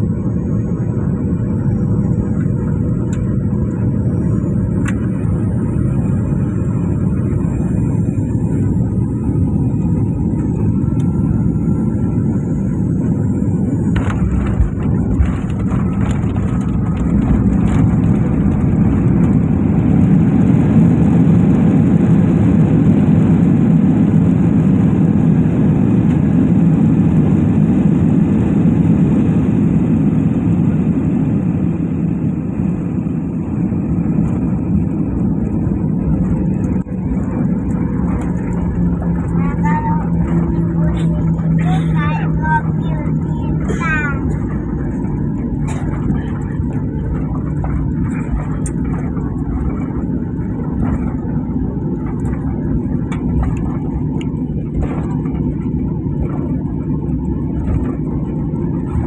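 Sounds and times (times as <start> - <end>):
jet engine whine: 0.0 - 59.0
loud engine rush: 0.0 - 59.0.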